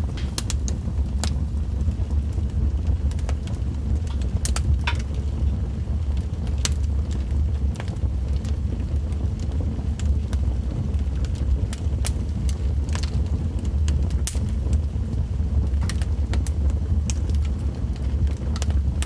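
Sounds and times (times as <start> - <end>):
steady low rumble: 0.0 - 19.0
wood fire crackling and popping: 0.0 - 19.0.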